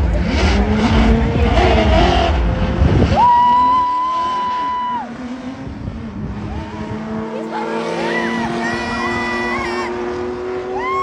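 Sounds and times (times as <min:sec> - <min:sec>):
car engines accelerating: 0:00.0 - 0:11.0.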